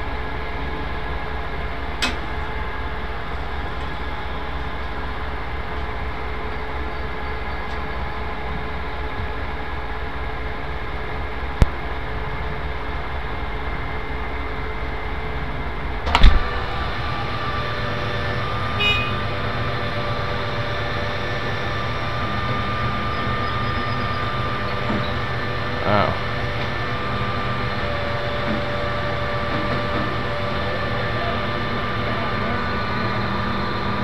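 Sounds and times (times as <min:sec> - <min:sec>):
crane engine and hydraulics drone: 0:00.0 - 0:34.0
steady whine of crane boom: 0:00.0 - 0:34.0.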